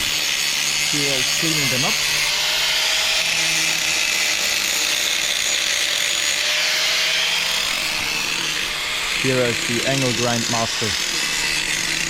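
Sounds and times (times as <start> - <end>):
angle grinder grinding steel: 0.0 - 12.0.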